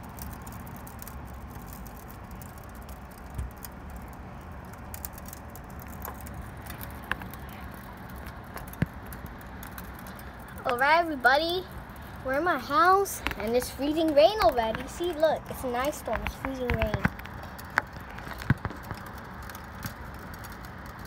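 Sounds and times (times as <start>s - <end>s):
hiss of falling rain: 0.0s - 21.0s
ice pellets ticking on window: 0.0s - 21.0s.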